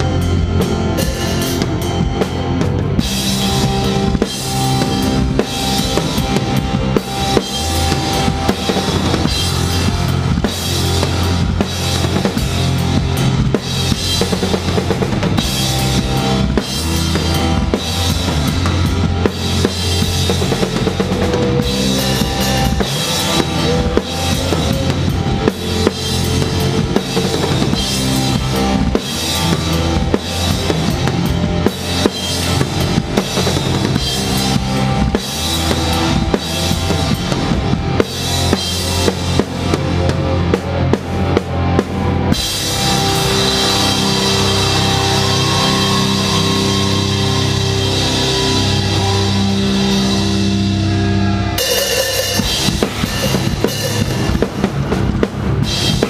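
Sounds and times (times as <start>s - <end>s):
metal band playing: 0.0s - 56.0s.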